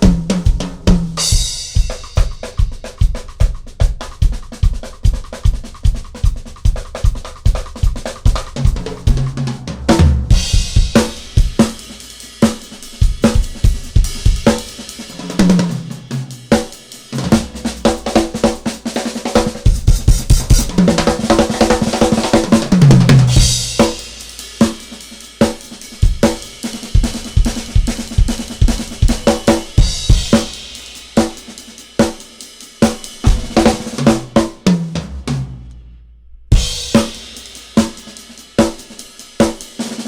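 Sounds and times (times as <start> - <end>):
drum kit playing: 0.0 - 40.0.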